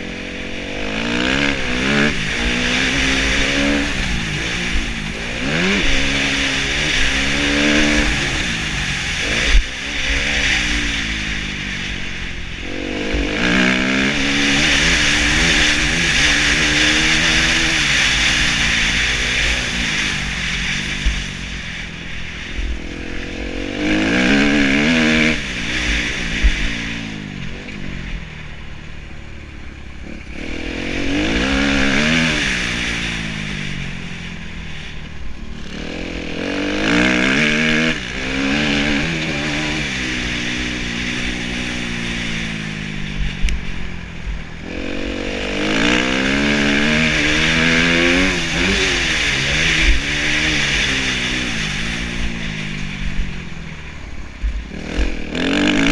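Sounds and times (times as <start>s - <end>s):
motocross engine revving: 0.0s - 55.9s.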